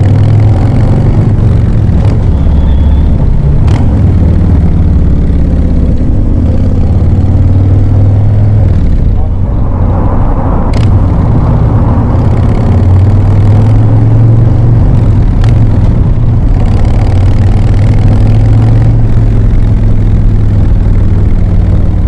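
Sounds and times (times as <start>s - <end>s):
motorcycle engine deep drone: 0.0s - 22.0s.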